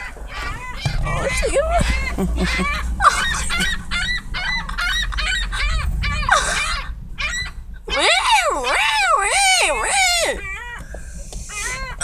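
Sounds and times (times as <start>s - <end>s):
birds squawking: 0.0s - 12.0s.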